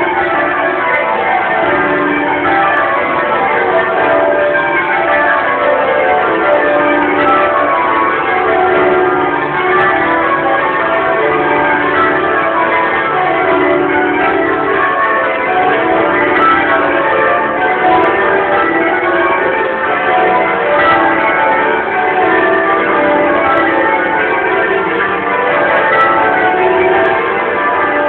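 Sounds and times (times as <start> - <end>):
church bells change ringing: 0.0 - 28.0.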